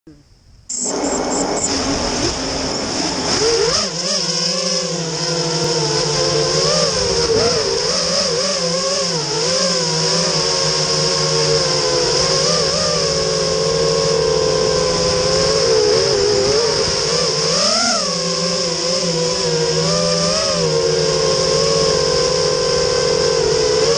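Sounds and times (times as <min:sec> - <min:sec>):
drone motors whining: 0:00.1 - 0:23.9.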